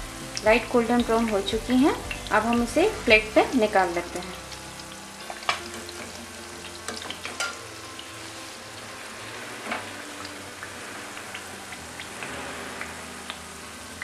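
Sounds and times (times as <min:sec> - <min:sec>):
deep-frying sizzle: 0:00.0 - 0:14.0.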